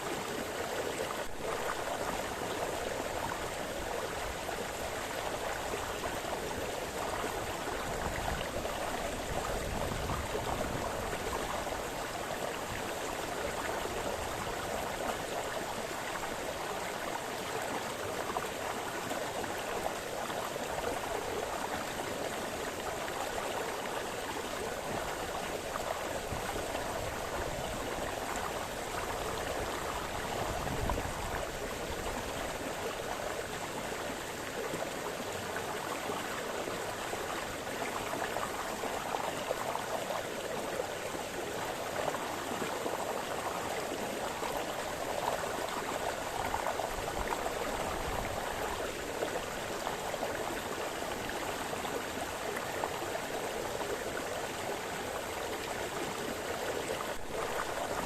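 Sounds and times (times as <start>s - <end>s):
brook burbling over stones: 0.0s - 58.0s.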